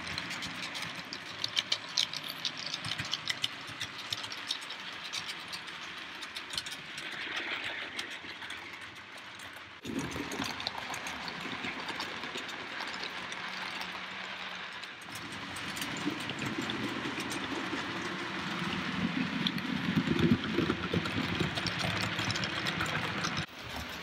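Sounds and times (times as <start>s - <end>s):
model train motor hum: 0.0s - 24.0s
wheels clicking on rails: 0.0s - 24.0s.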